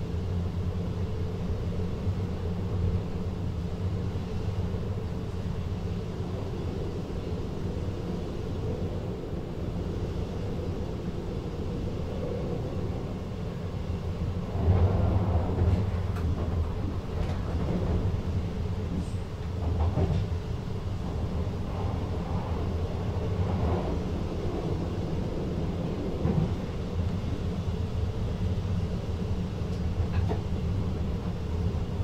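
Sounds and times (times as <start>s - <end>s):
train hum and rumble: 0.0s - 32.0s.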